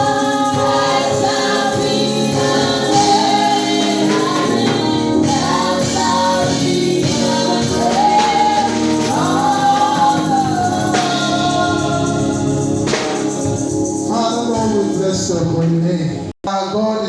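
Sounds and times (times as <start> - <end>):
tambourine: 0.0 - 15.3
congregation singing a hymn: 0.0 - 15.7
instrumental backing: 0.0 - 16.3.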